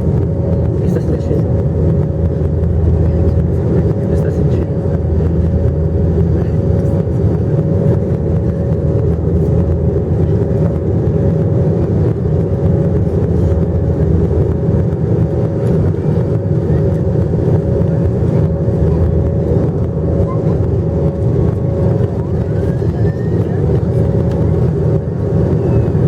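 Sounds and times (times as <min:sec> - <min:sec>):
aircraft engine and airflow rumble: 0:00.0 - 0:26.0
thin steady hum: 0:00.0 - 0:26.0.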